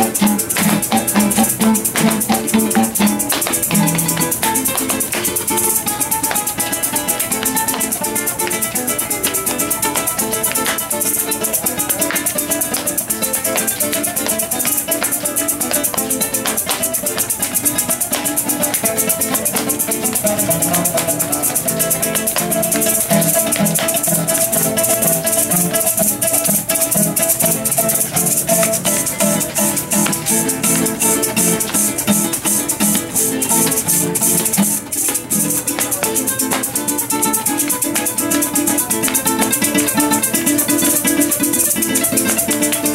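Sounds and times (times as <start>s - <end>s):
low plucked notes: 0.0s - 36.3s
maracas shaking: 0.0s - 42.9s
strummed cuatro: 0.0s - 42.9s.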